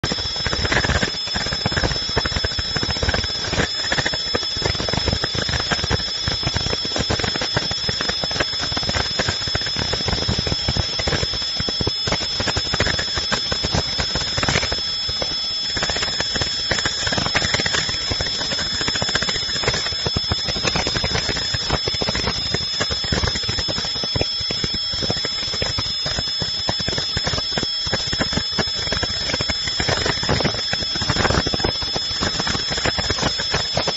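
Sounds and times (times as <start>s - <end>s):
high-pitched whining tones: 0.0s - 33.9s.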